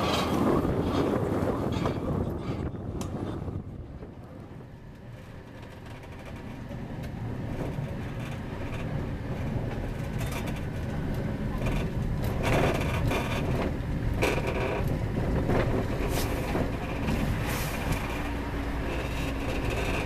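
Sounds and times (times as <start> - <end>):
train clanks and scrapes: 0.0 - 20.0
train rumble: 0.0 - 20.0.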